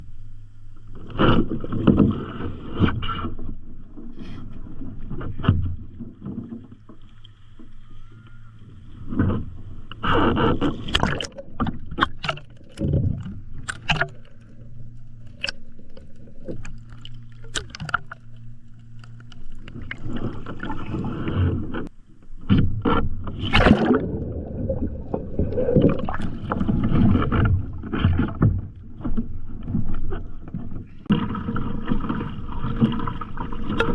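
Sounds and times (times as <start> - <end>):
water sloshing: 0.7 - 33.9
paddle splashes: 0.9 - 33.9.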